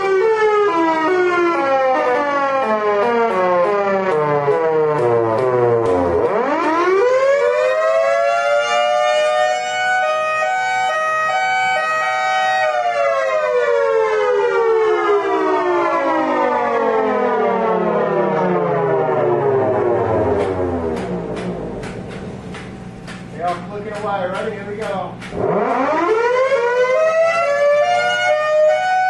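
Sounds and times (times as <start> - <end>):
miniature siren wailing: 0.0 - 20.9, 25.4 - 29.0.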